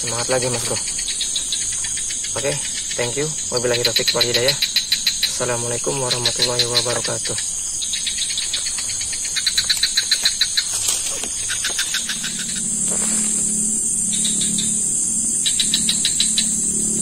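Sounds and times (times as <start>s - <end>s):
high-pitched insect drone: 0.0s - 17.0s
low steady hum: 0.0s - 17.0s
rapid insect chirping: 0.0s - 17.0s.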